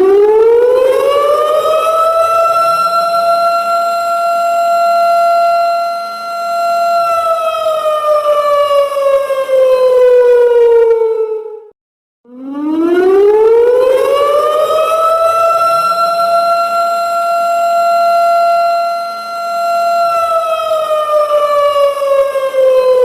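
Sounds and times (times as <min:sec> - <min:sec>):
wailing siren: 0:00.0 - 0:23.0.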